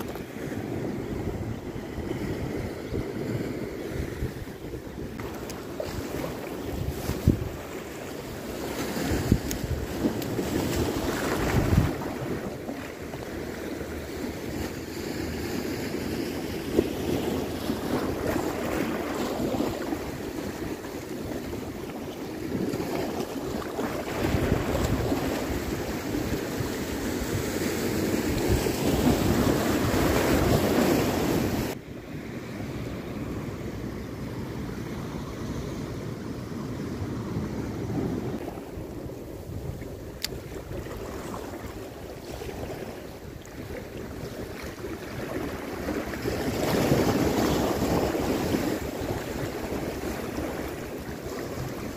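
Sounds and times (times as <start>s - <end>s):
sea waves breaking over rocks: 0.0s - 51.9s
wind buffeting microphone: 0.0s - 51.9s.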